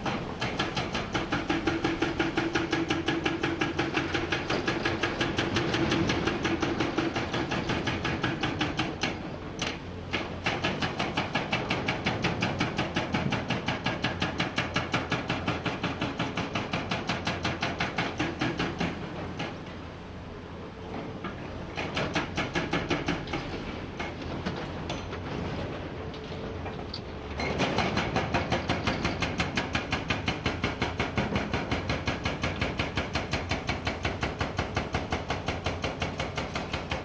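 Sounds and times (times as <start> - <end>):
hydraulic breaker pounding rock: 0.0 - 19.8, 21.7 - 26.6, 27.4 - 37.0.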